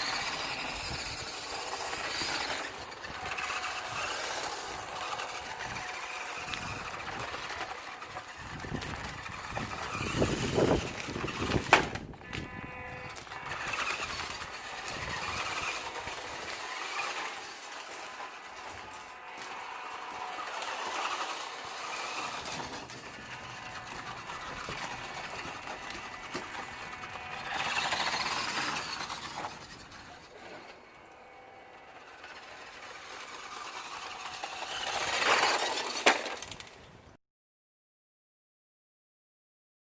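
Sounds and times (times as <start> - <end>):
toy truck electric motor whining: 0.0 - 36.8.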